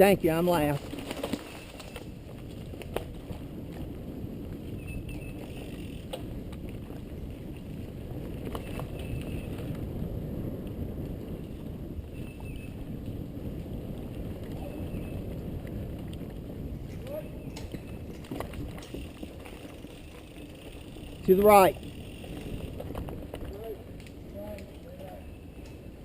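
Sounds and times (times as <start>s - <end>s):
tyres rumbling on dirt trail: 0.0s - 26.0s
wind on microphone: 0.0s - 26.0s
bike clicks and rattles: 0.5s - 26.0s.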